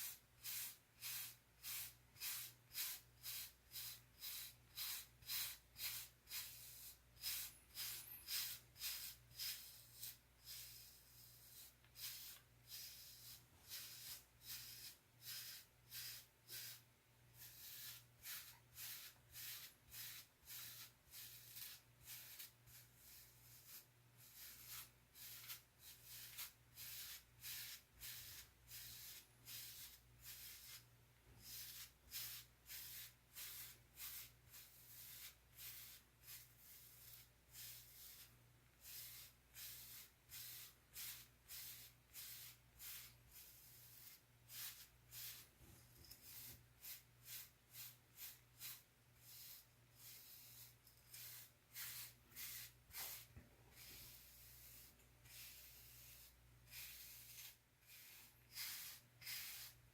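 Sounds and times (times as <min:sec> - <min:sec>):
brush scratching through hair: 0:00.0 - 0:59.9.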